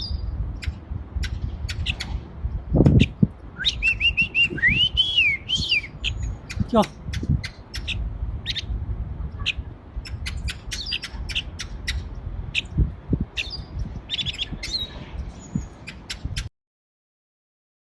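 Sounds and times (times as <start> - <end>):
songbird chirping: 0.0 - 12.8, 13.4 - 16.3
low rumble: 0.0 - 15.8.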